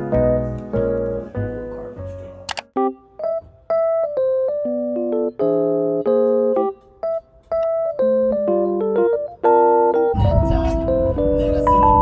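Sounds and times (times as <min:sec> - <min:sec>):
light background music: 0:00.0 - 0:12.0.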